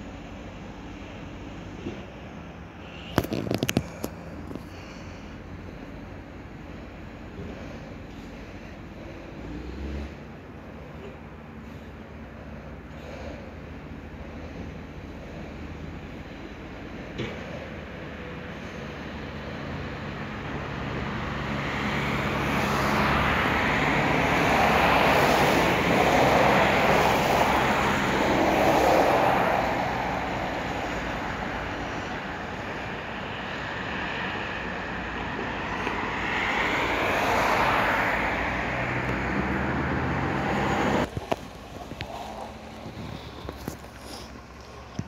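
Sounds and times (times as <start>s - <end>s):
low engine hum: 0.0s - 45.0s
tyres on wet road: 0.0s - 45.0s.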